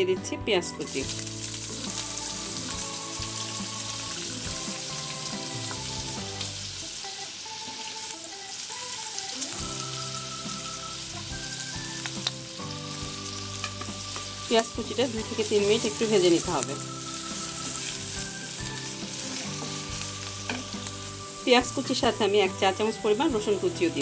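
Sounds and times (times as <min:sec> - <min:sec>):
soft background music: 0:00.0 - 0:24.0
onions sizzling in hot oil: 0:00.8 - 0:24.0.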